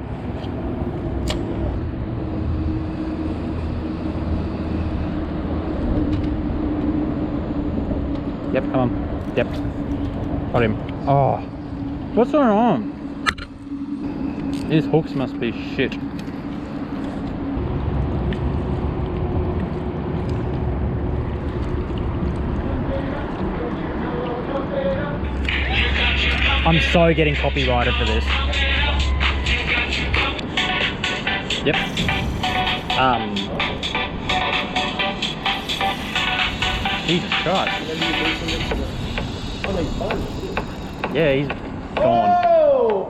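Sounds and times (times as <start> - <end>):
road traffic rumble: 0.0 - 42.0
motor droning: 0.2 - 42.0.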